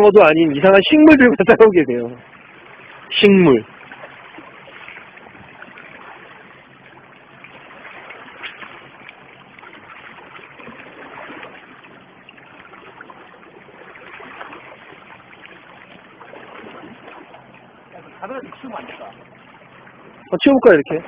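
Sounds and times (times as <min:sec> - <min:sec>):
waves lapping against rocks: 0:00.0 - 0:21.0.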